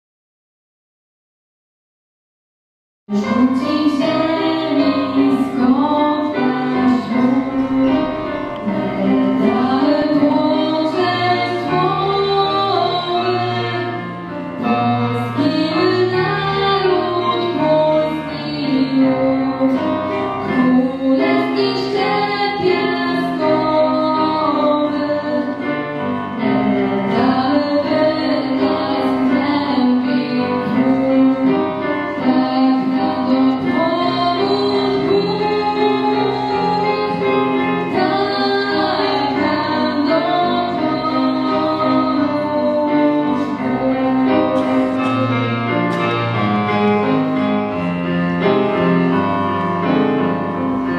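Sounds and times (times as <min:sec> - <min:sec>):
woman singing into microphone: 0:03.1 - 0:46.2
instrumental accompaniment: 0:03.1 - 0:50.9.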